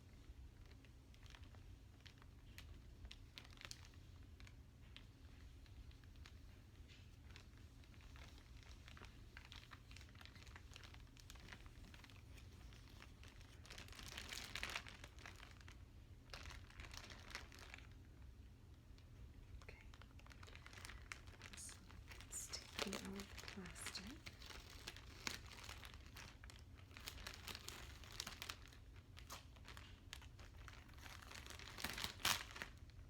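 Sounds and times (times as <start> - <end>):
plastic packaging crinkling: 0.2 - 33.0.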